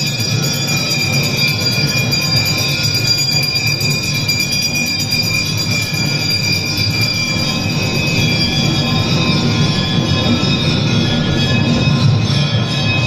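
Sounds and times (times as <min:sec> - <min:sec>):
bells ringing: 0:00.0 - 0:13.0.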